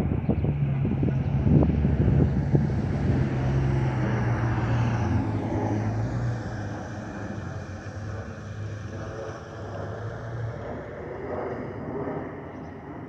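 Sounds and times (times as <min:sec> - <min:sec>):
jet engines roaring overhead: 0:00.0 - 0:13.0.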